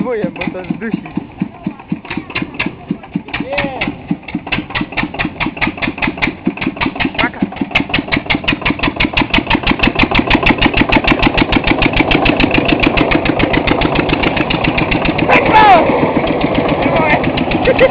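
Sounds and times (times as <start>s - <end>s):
single-cylinder engine chugging: 0.0s - 17.9s.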